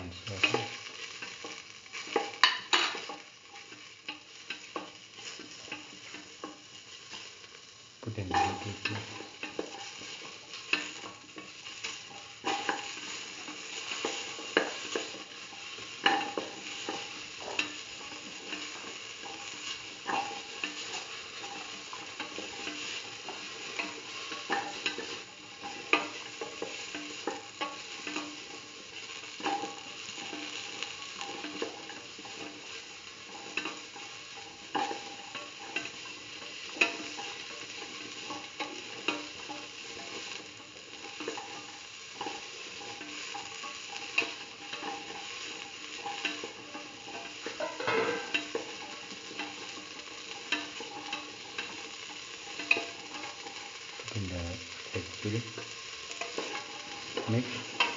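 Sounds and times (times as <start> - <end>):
vegetables sizzling in oil: 0.0 - 57.9.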